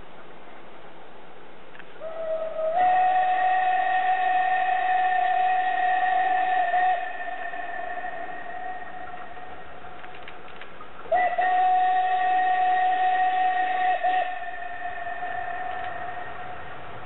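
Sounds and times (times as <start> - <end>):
steam locomotive whistle blowing: 2.0 - 10.3, 11.0 - 17.0.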